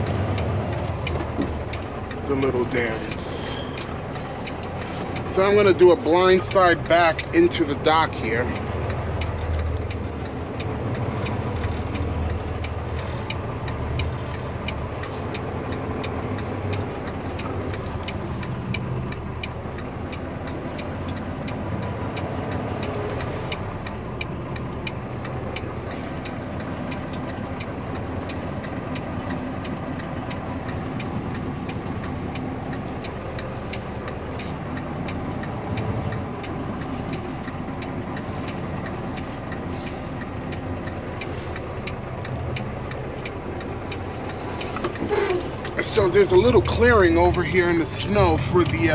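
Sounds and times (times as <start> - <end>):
diesel truck engine reversing: 0.0 - 48.9
steady ticking: 0.0 - 48.9.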